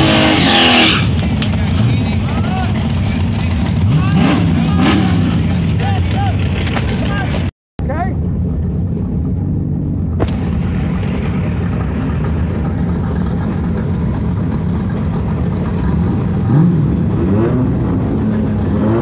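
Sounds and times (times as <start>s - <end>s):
engine revving: 0.0s - 7.4s, 9.2s - 19.0s
race car engine idling: 0.9s - 19.0s.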